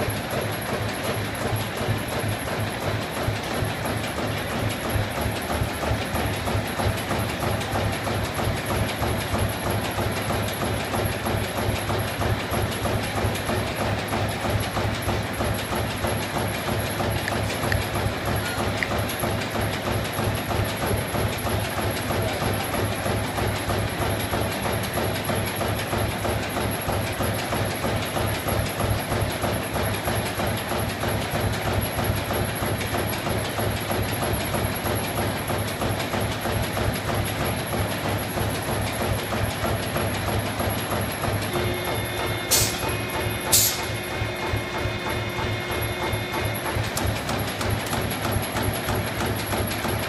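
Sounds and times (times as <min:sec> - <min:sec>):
punching machine rapid clatter: 0:00.0 - 0:50.0.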